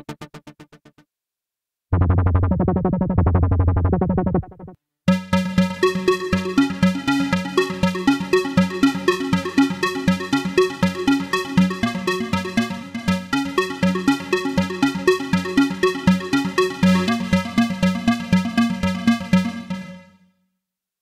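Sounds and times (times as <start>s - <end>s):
arpeggiated square-wave synth: 1.9s - 20.2s.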